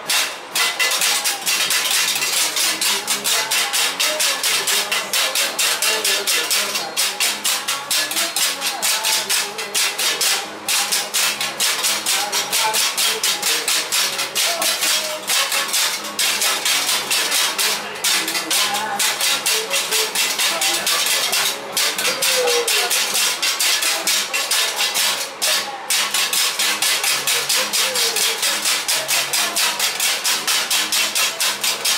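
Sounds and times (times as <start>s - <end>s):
handheld percussion rhythm: 0.0s - 31.9s.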